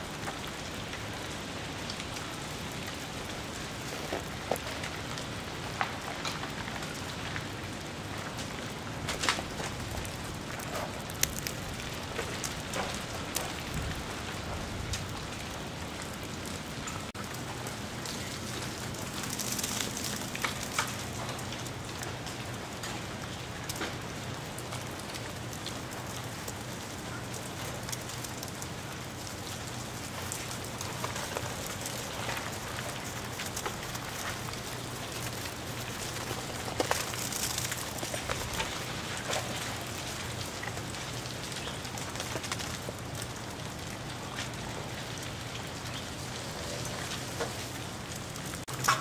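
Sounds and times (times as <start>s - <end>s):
ice pieces pattering onto snow: 0.0s - 49.0s.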